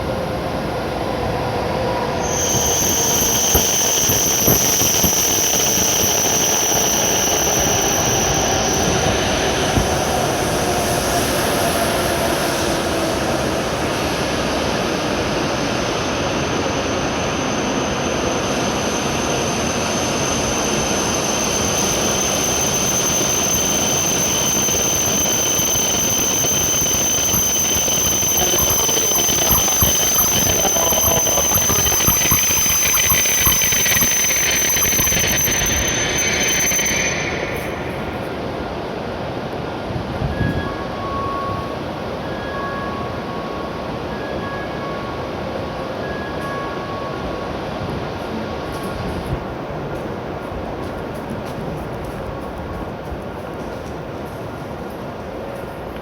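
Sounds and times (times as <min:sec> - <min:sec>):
train whine falling in pitch: 0:00.3 - 0:49.6
train brake squeal: 0:02.0 - 0:39.2, 0:39.8 - 0:49.4.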